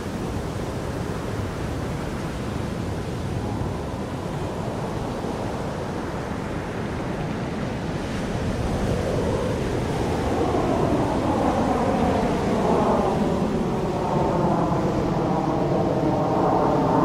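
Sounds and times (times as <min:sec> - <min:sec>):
wind on microphone: 0:00.0 - 0:17.0
jet aircraft rumble: 0:00.2 - 0:17.0.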